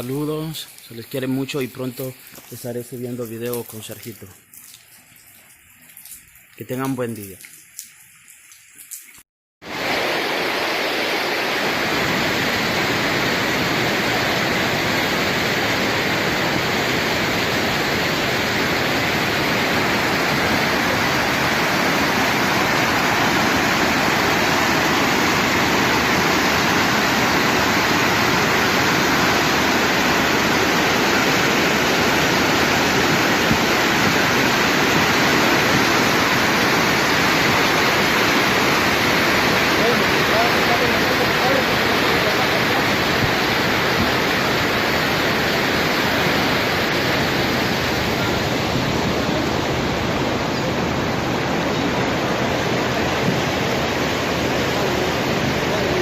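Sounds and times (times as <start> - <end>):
rushing storm water: 0.0 - 5.0, 9.6 - 56.0.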